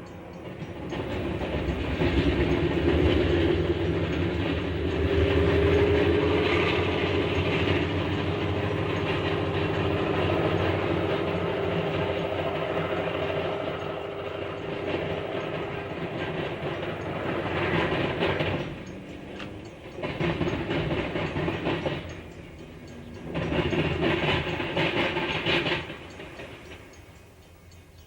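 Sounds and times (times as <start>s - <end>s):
diesel locomotive engine running: 0.0s - 28.0s
rail cars clattering over track: 0.0s - 28.0s.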